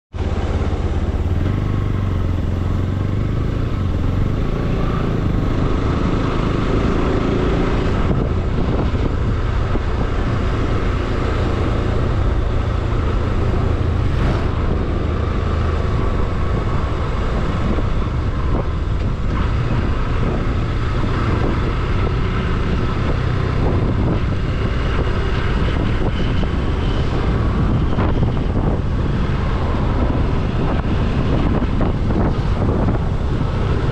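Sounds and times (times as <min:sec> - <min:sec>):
motorcycle engine running: 0:00.1 - 0:33.9
road noise: 0:00.1 - 0:33.9.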